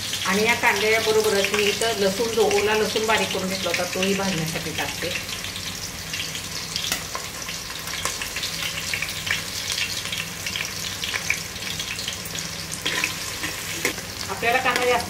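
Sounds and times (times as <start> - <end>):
onion and garlic frying in oil: 0.0 - 15.0.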